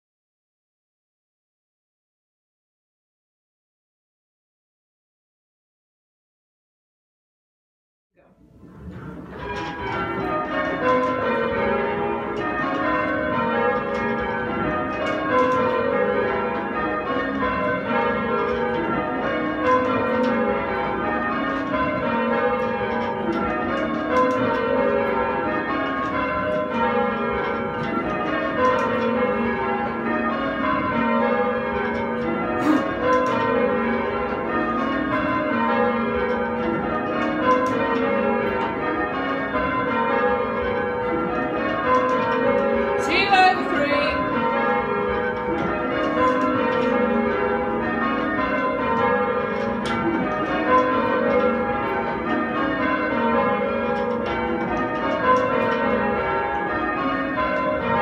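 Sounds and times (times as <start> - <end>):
church bells ringing in changes: 9.2 - 58.0.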